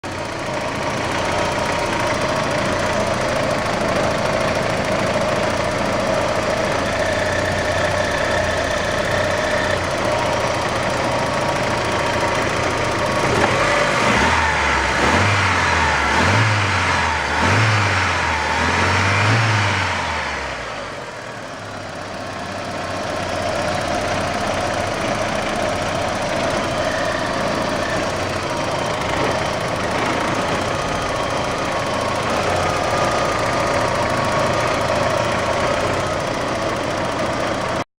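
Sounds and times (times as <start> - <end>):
car engine idling and revving: 0.0 - 37.8.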